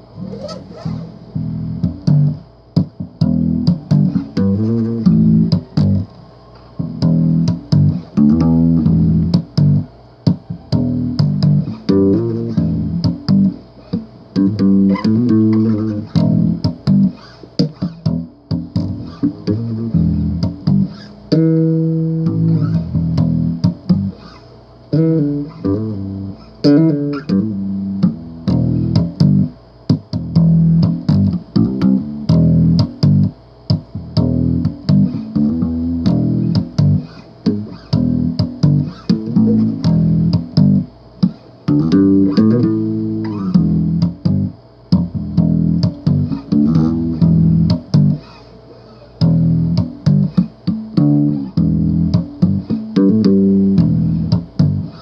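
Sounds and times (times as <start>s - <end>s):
electric bass guitar riffing: 0.0s - 55.0s.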